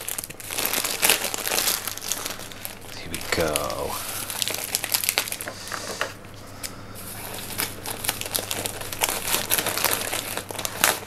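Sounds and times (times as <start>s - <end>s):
plastic and paper wrapping crinkling: 0.0s - 11.0s.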